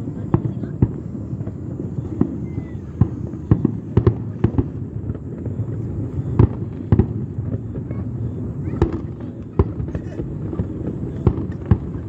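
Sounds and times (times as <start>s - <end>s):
fireworks booming: 0.0s - 12.0s
low rumble of explosions: 0.0s - 12.0s.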